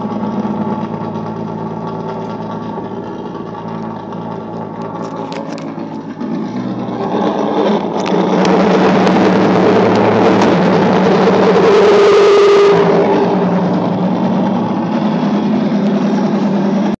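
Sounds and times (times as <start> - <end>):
electric guitar noise drone: 0.0 - 16.9.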